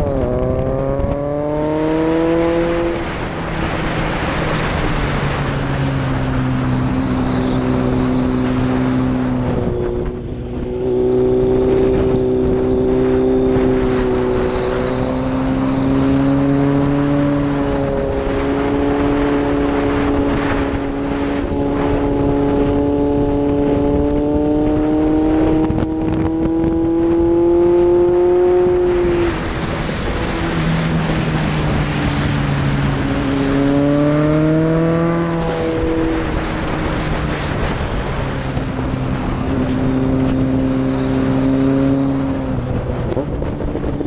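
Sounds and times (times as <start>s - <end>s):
motorcycle engine: 0.0s - 44.0s
wind and road noise: 0.0s - 44.0s.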